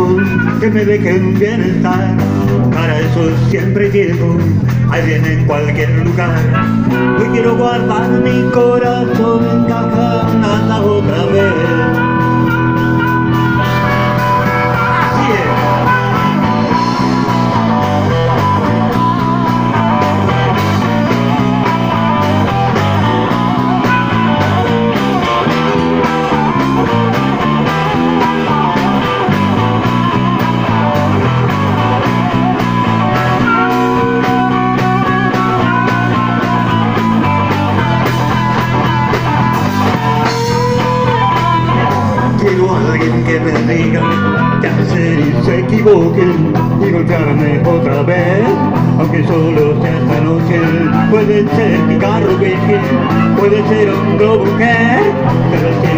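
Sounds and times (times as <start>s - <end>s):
drums: 0.0s - 55.9s
electric bass line: 0.0s - 55.9s
electric guitar: 0.0s - 55.9s
harmonica long notes: 6.4s - 55.9s.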